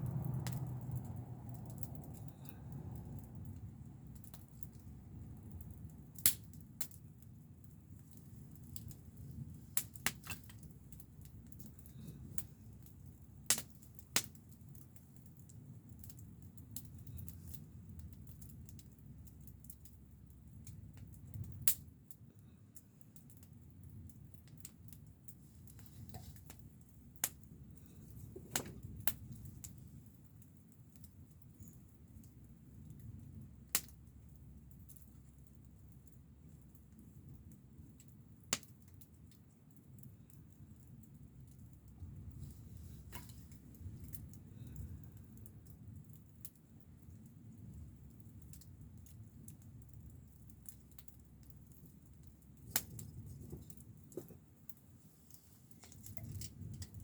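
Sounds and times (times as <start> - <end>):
wood campfire crackling: 0.0 - 57.0.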